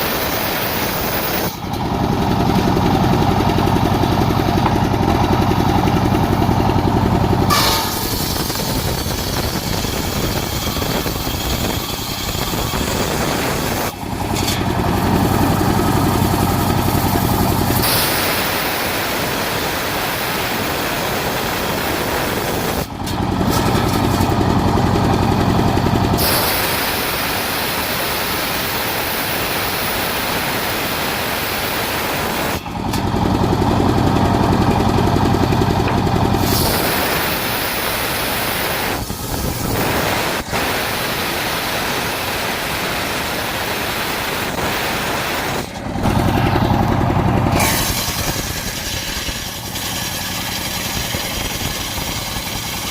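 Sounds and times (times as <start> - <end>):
circular saw cutting wood: 0.0 - 52.9.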